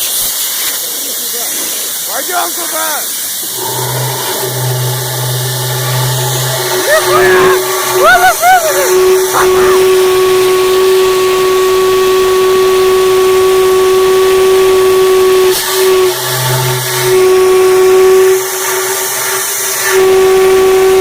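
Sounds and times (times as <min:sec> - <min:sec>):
steady whistling hum: 0:03.4 - 0:21.0.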